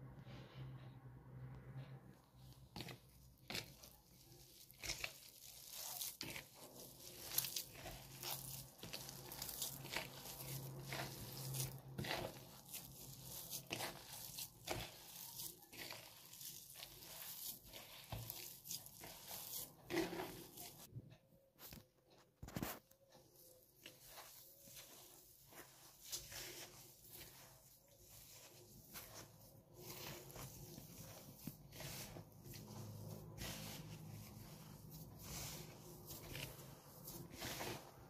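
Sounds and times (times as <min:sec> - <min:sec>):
hand squishing food mixture: 0:02.2 - 0:21.8, 0:22.5 - 0:38.0.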